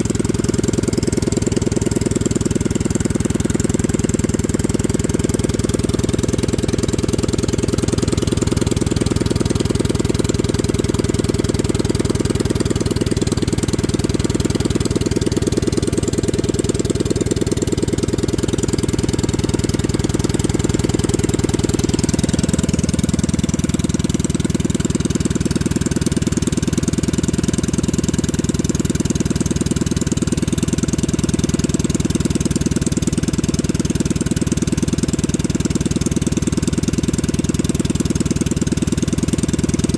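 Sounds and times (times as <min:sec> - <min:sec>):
go-kart engine idling: 0:00.0 - 0:39.9.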